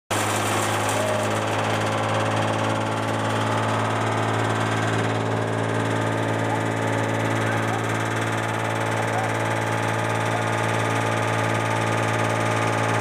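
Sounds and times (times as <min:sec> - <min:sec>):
engine running hum: 0:00.1 - 0:13.0.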